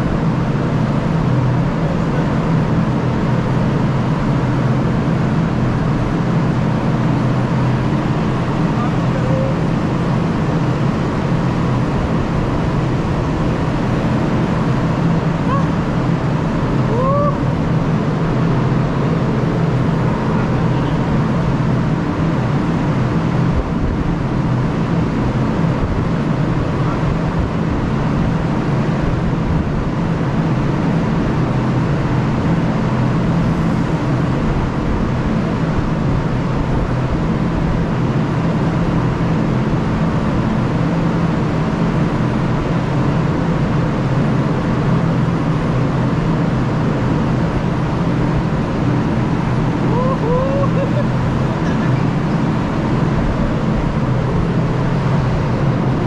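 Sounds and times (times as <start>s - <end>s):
ship machinery humming: 0.0s - 56.0s.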